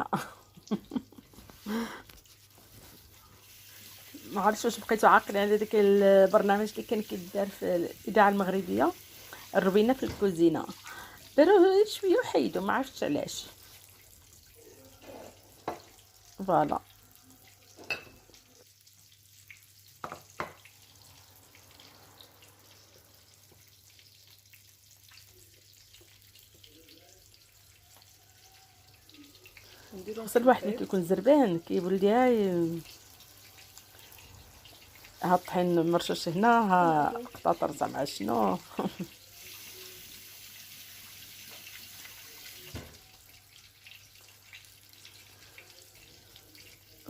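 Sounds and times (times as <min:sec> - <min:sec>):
fish frying in hot oil: 0:00.0 - 0:47.0.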